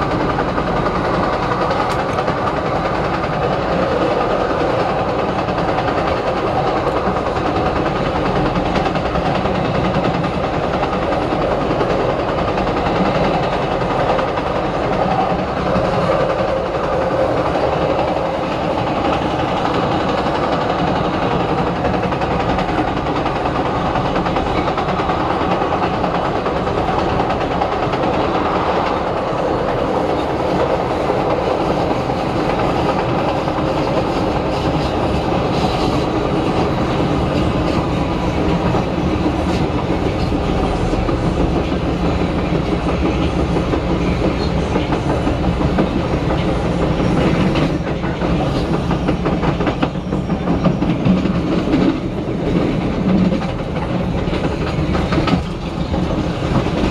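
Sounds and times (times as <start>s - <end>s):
rail joints clickety-clack: 0.0s - 56.9s
train wheels rumbling on rail: 0.0s - 56.9s.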